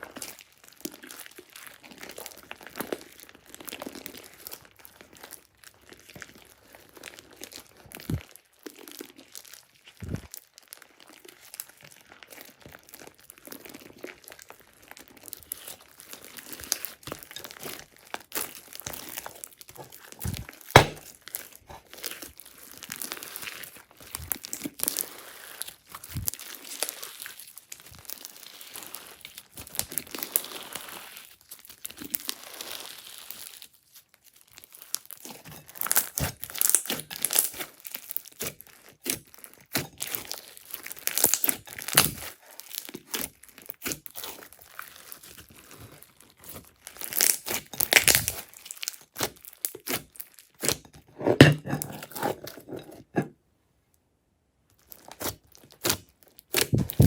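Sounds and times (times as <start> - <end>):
slime squelching and crackling: 0.0 - 53.2, 54.7 - 57.0.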